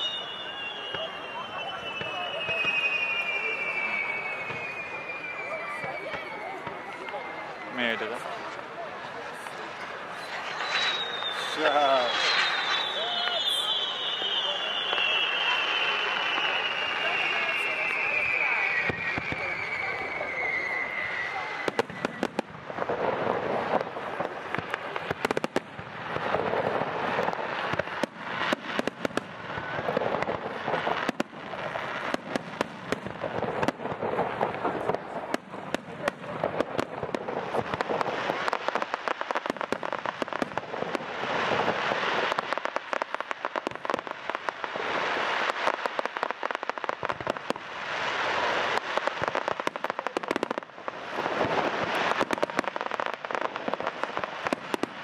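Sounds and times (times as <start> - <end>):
fireworks bangs and pops: 0.0 - 55.0
fireworks crackle: 0.0 - 55.0.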